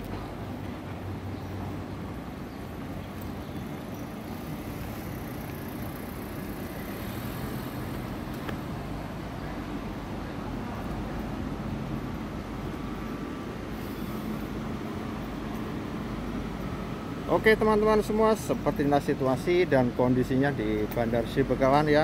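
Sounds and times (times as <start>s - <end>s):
city street traffic rumble: 0.0s - 22.0s.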